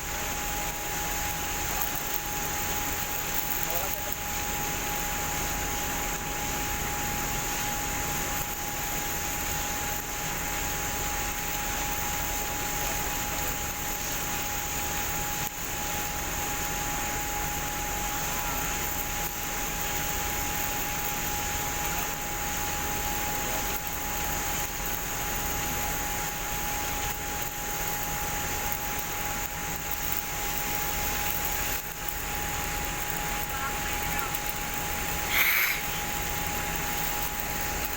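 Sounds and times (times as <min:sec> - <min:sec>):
spraying machine hiss and whine: 0:00.0 - 0:37.9.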